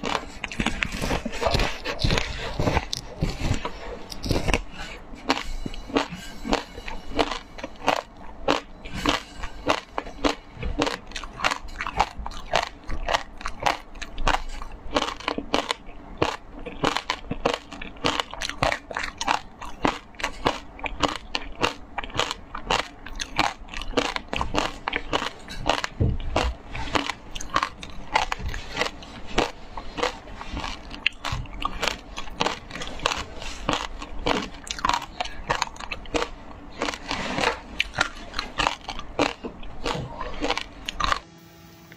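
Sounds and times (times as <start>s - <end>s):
chewing crunchy ice: 0.0s - 41.2s.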